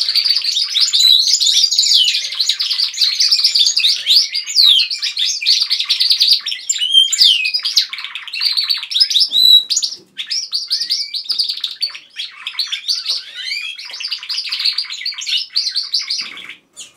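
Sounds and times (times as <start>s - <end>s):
canaries singing: 0.0s - 16.9s.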